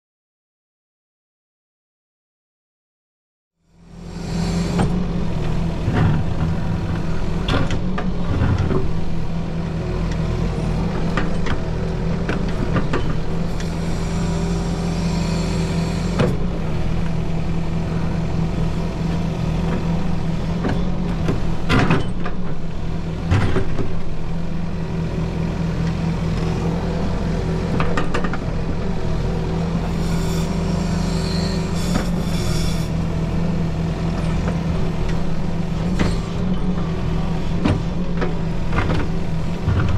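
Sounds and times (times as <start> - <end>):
excavator engine running: 3.8 - 39.9.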